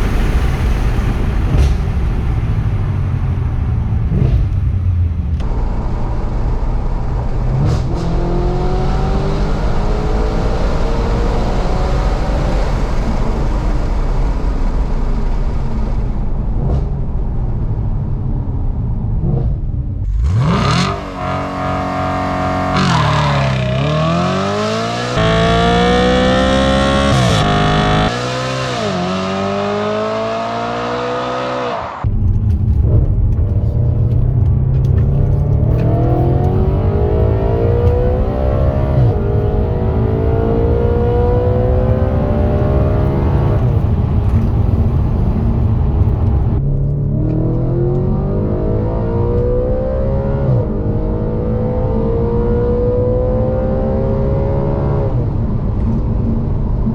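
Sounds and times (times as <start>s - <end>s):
heavy low rumble: 0.0s - 21.1s, 22.8s - 28.1s, 32.0s - 49.6s, 54.5s - 56.9s
car engine accelerating hard: 0.0s - 56.9s.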